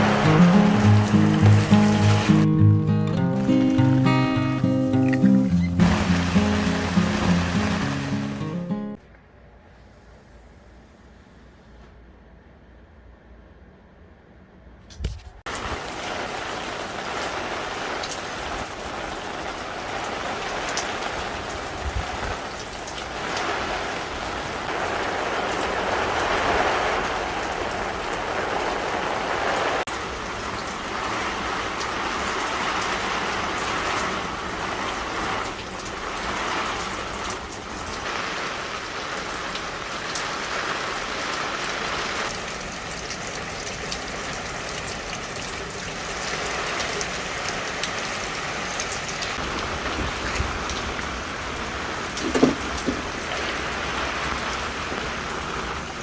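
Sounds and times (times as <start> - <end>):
heavy rain downpour: 0.0 - 9.0, 15.5 - 56.0.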